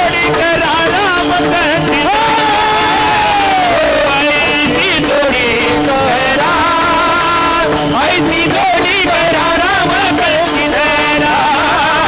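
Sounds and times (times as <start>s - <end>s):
men's chorus singing: 0.0s - 12.0s
small hand cymbals: 0.0s - 12.0s
steady held drone note: 0.0s - 12.0s.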